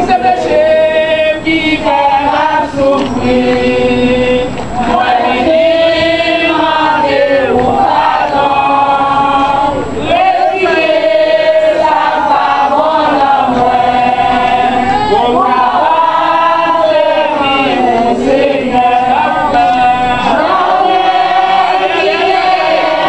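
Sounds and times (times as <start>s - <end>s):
congregation singing a chant: 0.0s - 23.0s.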